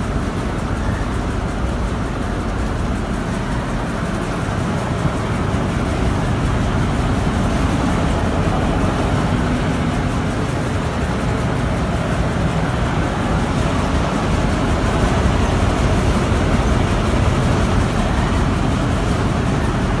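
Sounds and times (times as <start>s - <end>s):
grain cleaning machine clattering: 0.1s - 20.0s.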